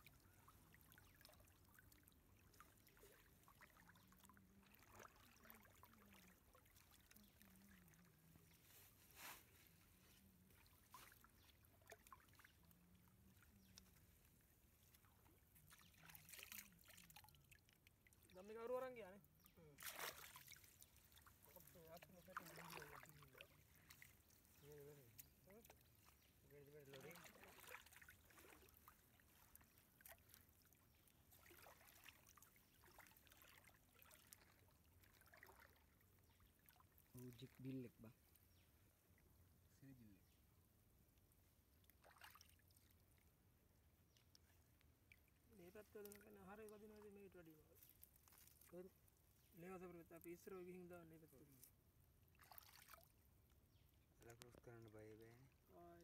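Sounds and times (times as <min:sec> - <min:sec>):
small water drips and splashes: 0:00.0 - 0:56.0.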